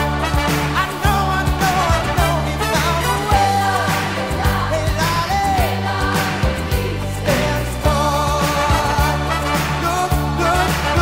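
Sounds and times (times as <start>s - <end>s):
upbeat music with drum beat: 0.0s - 11.0s.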